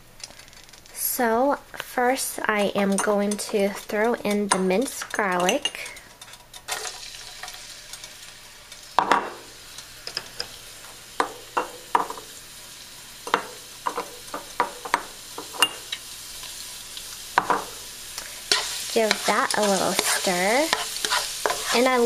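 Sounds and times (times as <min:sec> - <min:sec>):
garlic sizzling in oil: 0:00.3 - 0:22.0.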